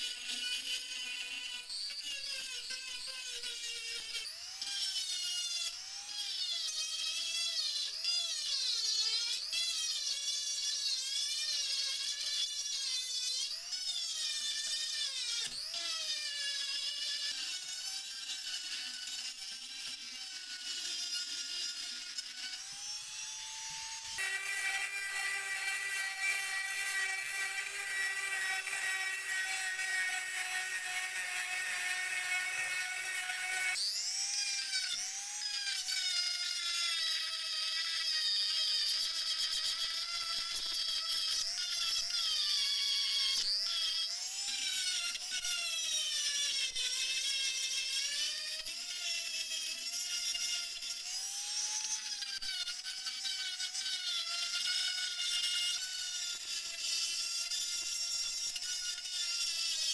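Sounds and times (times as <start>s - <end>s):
rotary tool grinding metal: 0.0s - 59.9s.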